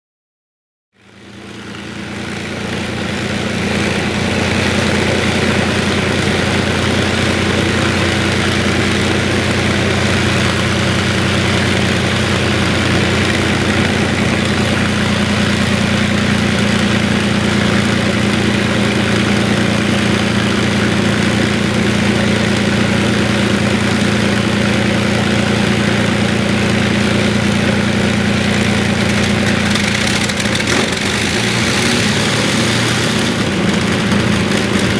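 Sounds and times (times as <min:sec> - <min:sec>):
engine idling: 0:01.0 - 0:34.9.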